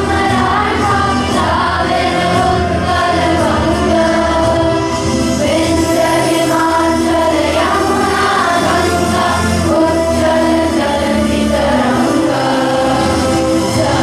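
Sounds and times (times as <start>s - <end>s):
group of voices singing: 0.0s - 14.0s.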